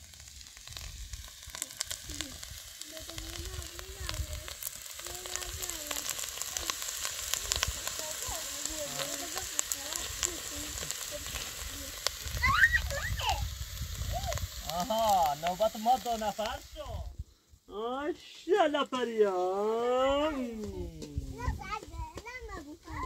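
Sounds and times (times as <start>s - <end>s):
small pops and crackles: 0.0s - 17.1s, 20.5s - 22.6s
vegetables sizzling in oil: 0.0s - 23.0s.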